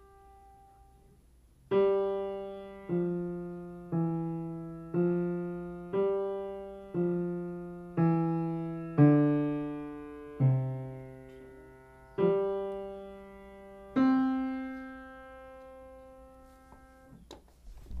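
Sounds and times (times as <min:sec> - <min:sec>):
slow piano melody: 0:00.0 - 0:17.3.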